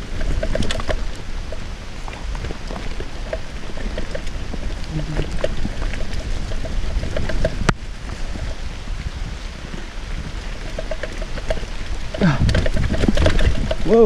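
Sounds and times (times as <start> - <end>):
bike rattles and clicks: 0.0 - 14.0
mountain bike rolling over rocks: 0.0 - 14.0.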